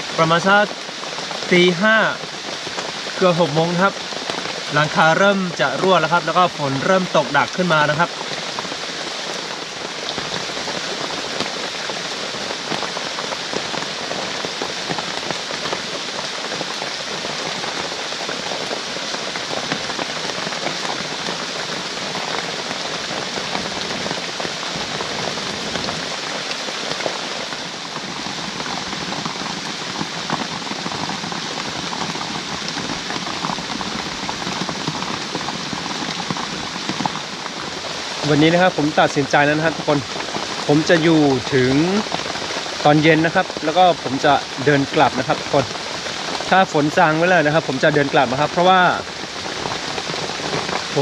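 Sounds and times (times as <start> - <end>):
heavy rain: 0.0 - 51.0.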